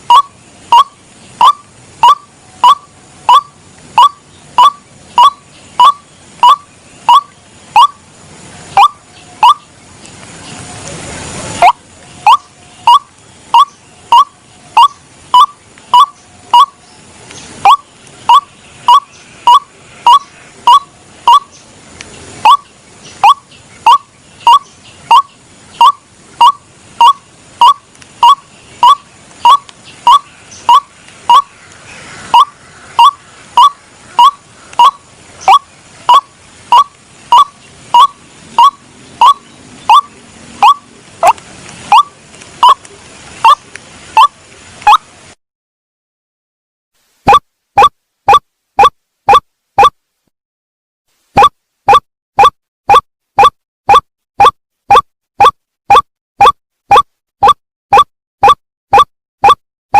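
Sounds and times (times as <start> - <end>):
bird calls repeated rapidly: 0.0 - 8.1, 8.7 - 9.8, 11.6 - 42.8, 43.4 - 45.1, 47.3 - 50.0, 51.4 - 59.6.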